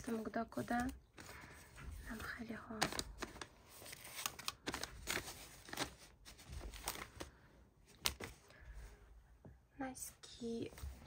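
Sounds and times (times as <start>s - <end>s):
clothes and packaging rustling: 0.0s - 9.0s.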